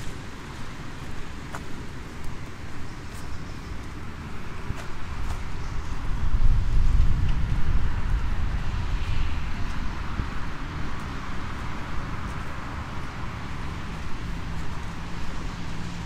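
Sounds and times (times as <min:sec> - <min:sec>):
road traffic hiss: 0:00.0 - 0:16.0
wind rumbling on microphone: 0:00.0 - 0:16.0.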